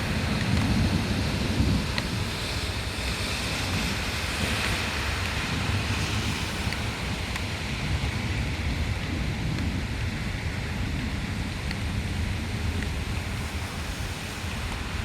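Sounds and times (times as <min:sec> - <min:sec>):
heavy rain pouring: 0:00.0 - 0:15.0
wind gusting over microphone: 0:00.0 - 0:15.0.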